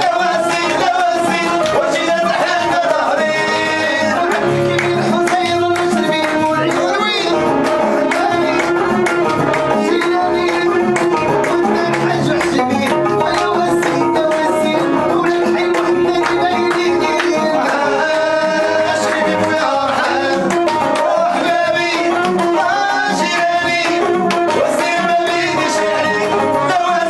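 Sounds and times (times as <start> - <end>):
fast steady beat: 0.0 - 27.0.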